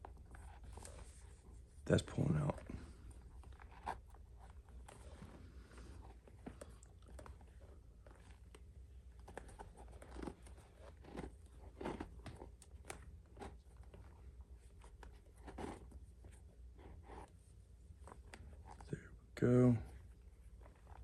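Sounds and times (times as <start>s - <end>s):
leather lace crackling and rubbing: 0.0s - 18.8s
low steady hum: 0.0s - 21.0s.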